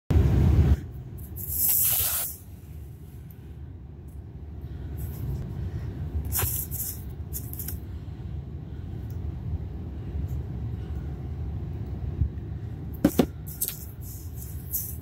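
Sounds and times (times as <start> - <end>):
steady low rumble: 0.1 - 15.0.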